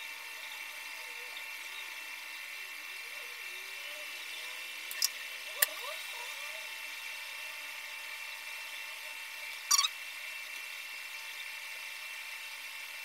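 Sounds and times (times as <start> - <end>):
high-pitched electrical hum: 0.0 - 13.0.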